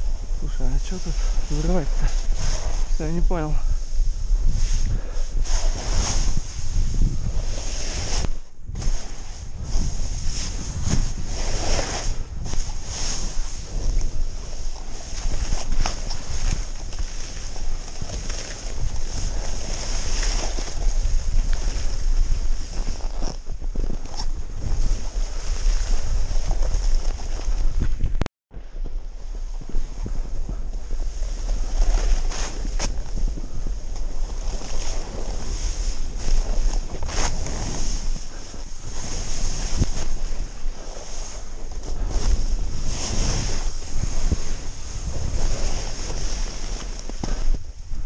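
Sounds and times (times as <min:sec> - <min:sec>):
snowboard scraping over snow: 0:00.0 - 0:27.9, 0:29.2 - 0:47.8
wind buffeting microphone: 0:00.0 - 0:48.0.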